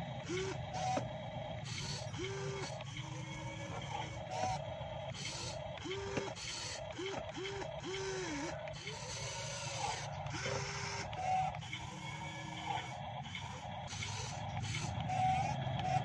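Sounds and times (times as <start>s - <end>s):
electric motors whirring: 0.0s - 16.0s.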